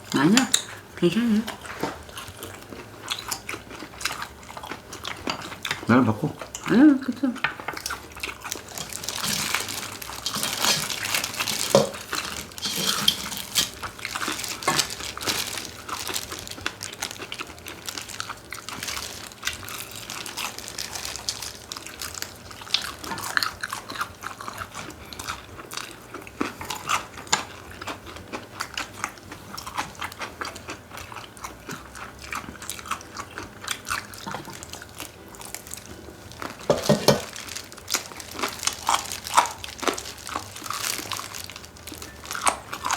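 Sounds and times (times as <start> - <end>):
chewing crispy chicken: 0.0 - 42.9.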